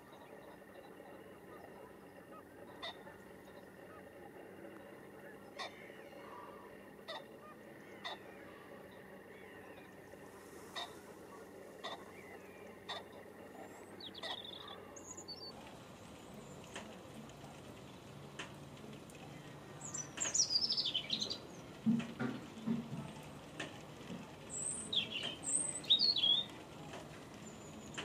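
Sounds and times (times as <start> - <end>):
birds chirping: 0.0 - 28.0
steady outdoor hiss: 0.0 - 28.0.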